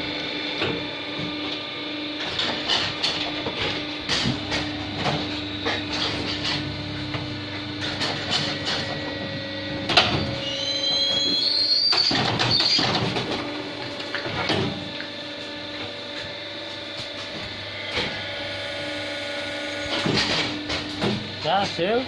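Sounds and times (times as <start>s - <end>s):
high machine whine: 0.0s - 22.0s
molding machine humming: 0.0s - 22.0s.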